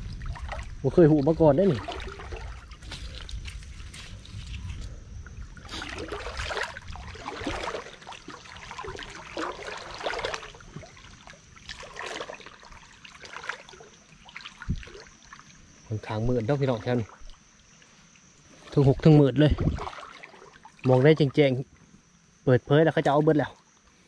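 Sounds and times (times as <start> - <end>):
rustling wet vegetation: 0.0 - 23.8.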